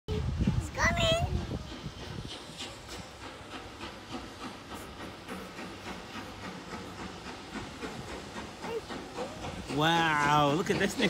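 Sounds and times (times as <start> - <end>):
steam hiss: 0.1 - 11.0
steam train chuffing: 0.1 - 11.0.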